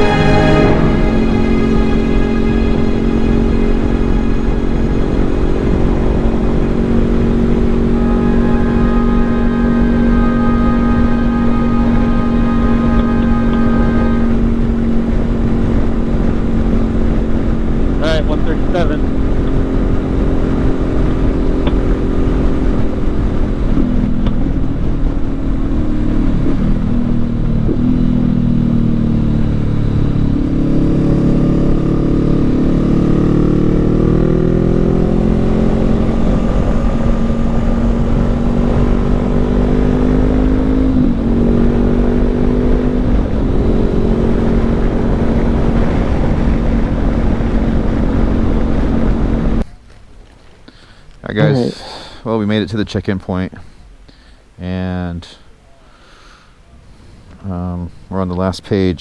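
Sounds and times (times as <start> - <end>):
motorcycle engine running: 0.0 - 49.7
wind noise: 0.0 - 49.8
road noise: 0.0 - 59.0.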